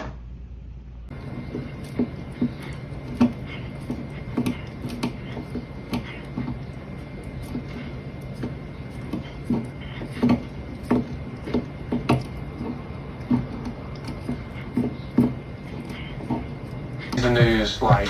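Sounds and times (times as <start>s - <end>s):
cat teeth scraping on wood: 1.5s - 17.2s.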